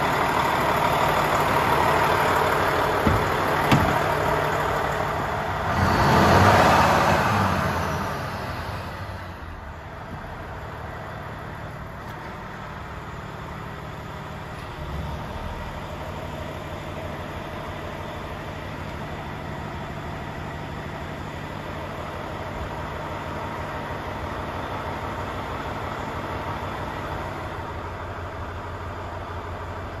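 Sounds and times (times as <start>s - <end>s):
truck diesel engine idling: 0.0s - 30.0s.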